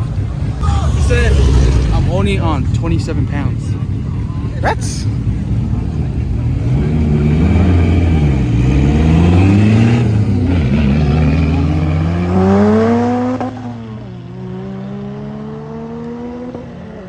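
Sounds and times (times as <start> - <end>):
car engine accelerating: 0.0 - 16.9.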